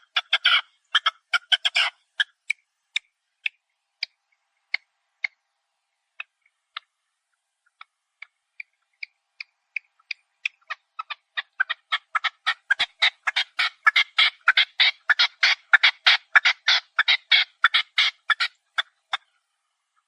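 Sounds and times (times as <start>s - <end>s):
partridge sharp chuck calls: 0.0s - 5.4s, 7.6s - 19.4s.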